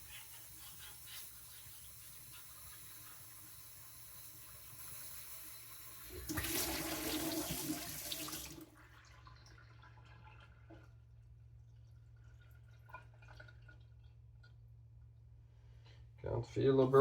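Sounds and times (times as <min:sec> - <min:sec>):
water running: 0:00.0 - 0:14.7.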